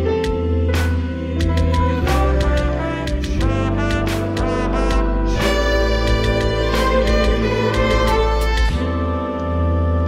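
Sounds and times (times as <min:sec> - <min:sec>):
ensemble playing held chords: 0:00.3 - 0:10.0.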